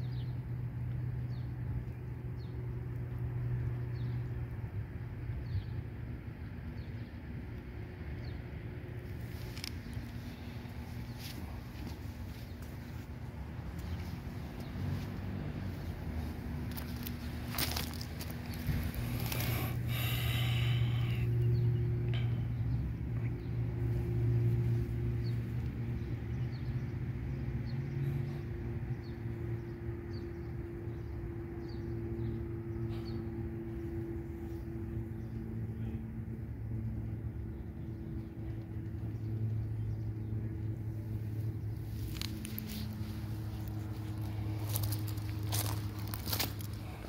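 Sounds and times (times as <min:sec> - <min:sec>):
engine rumble and hum: 0:00.0 - 0:47.0.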